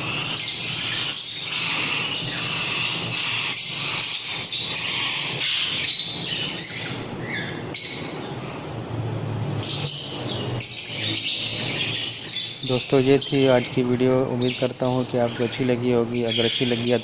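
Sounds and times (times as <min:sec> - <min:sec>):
parrots chirping and squawking: 0:00.0 - 0:17.0.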